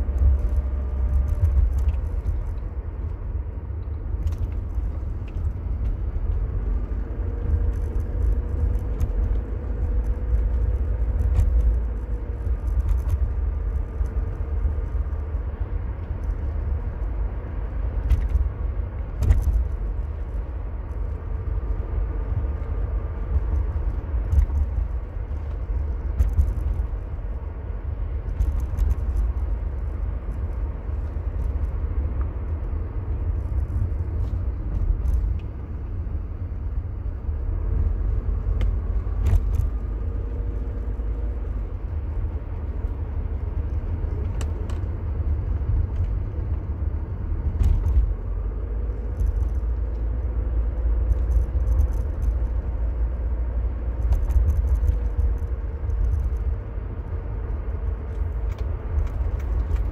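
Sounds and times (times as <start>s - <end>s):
car engine: 0.0s - 59.9s
low road rumble: 0.0s - 59.9s
sharp clicks and rattles: 0.1s - 32.6s, 33.2s - 59.9s.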